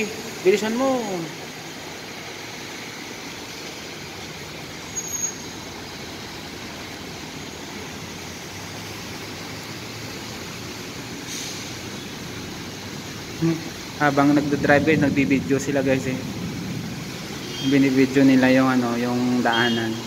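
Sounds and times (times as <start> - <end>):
traffic driving through water: 0.0 - 20.0.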